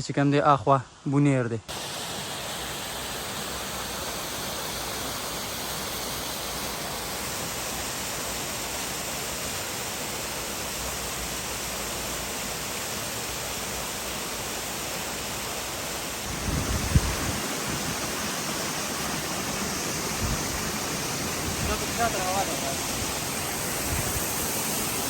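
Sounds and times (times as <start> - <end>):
waterfall rushing: 1.7 - 25.0.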